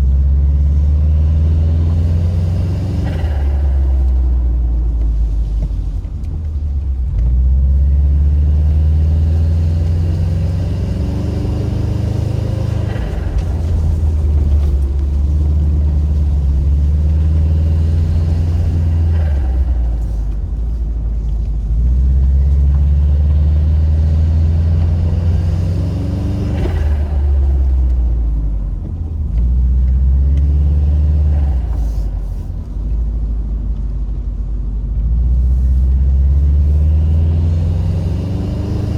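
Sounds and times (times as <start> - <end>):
car engine revving under load: 0.0 - 38.9.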